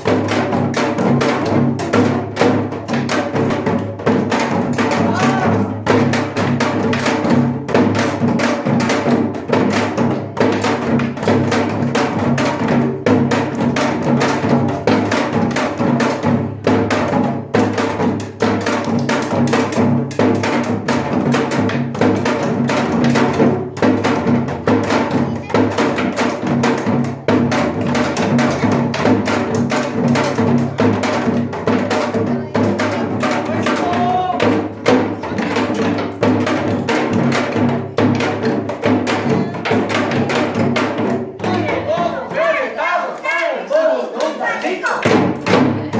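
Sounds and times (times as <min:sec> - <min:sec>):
drums in fast rhythm: 0:00.0 - 0:43.4, 0:44.4 - 0:45.9.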